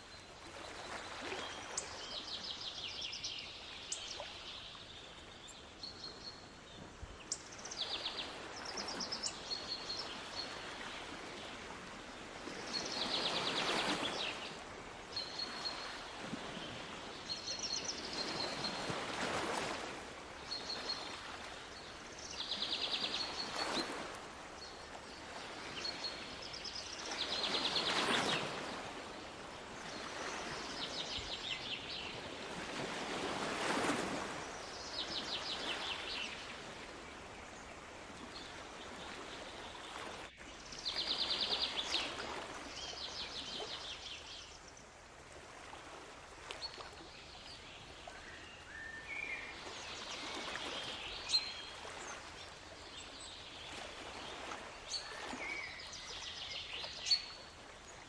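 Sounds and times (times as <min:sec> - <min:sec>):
surf washing in and out: 0:06.6 - 0:58.0.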